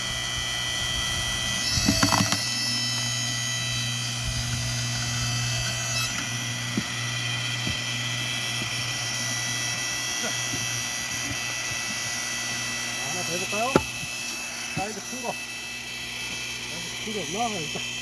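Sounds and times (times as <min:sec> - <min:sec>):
log splitter motor and pump hum: 0:00.0 - 0:18.0.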